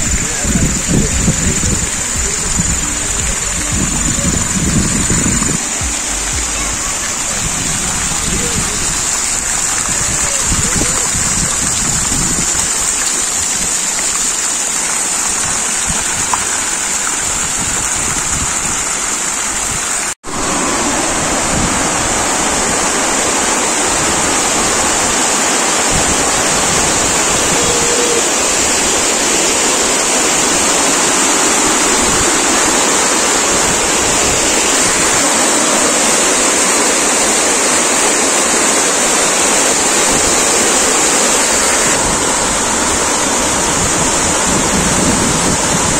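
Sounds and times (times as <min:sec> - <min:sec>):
fountain jets splashing: 0:00.0 - 0:45.9
water pouring down cascade wall: 0:00.0 - 0:45.9.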